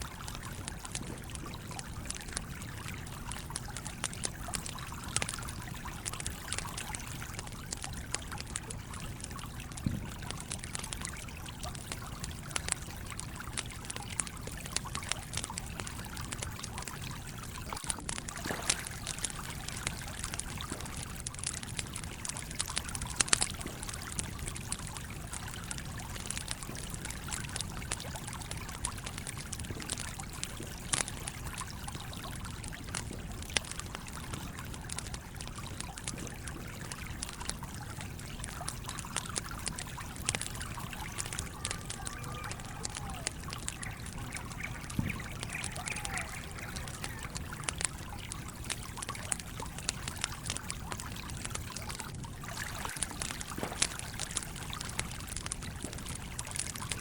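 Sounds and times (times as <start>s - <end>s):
stream trickling: 0.0s - 57.0s
wood fire crackling and popping: 0.0s - 57.0s.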